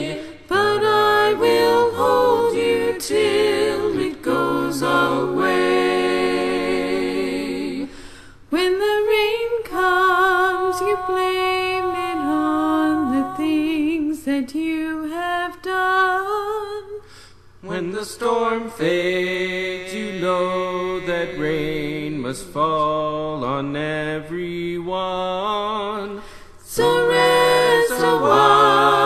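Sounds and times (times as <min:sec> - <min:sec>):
voices singing a cappella: 0:00.0 - 0:29.0.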